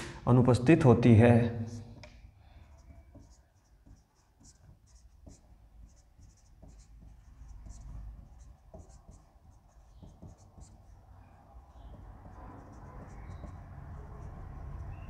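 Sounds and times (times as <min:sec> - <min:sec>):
marker squeaking on whiteboard: 0:02.7 - 0:15.0.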